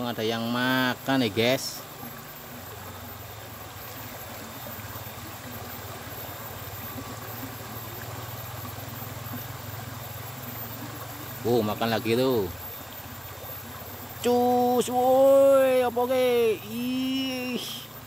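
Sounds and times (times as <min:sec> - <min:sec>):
low steady hum: 0:00.0 - 0:18.0
stream flowing: 0:00.0 - 0:18.0.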